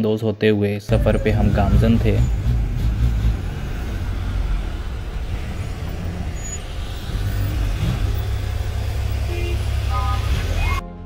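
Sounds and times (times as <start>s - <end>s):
bus engine rumble: 0.9s - 10.8s
tyres hissing on road: 1.0s - 10.8s.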